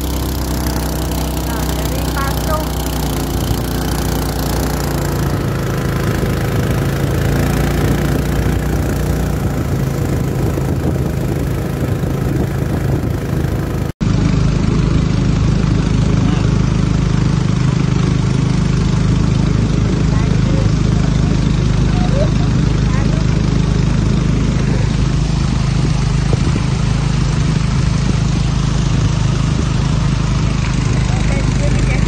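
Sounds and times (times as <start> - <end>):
boat engine low hum: 0.0 - 32.0
small boat engine running: 0.0 - 32.0.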